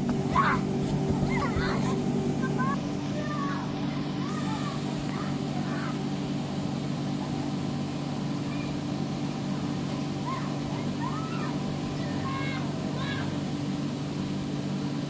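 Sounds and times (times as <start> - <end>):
air blower humming: 0.0 - 15.0.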